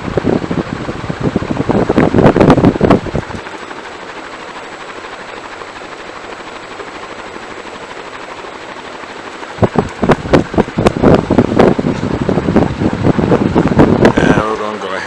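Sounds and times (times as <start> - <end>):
ceiling fan air rushing: 0.0 - 15.0.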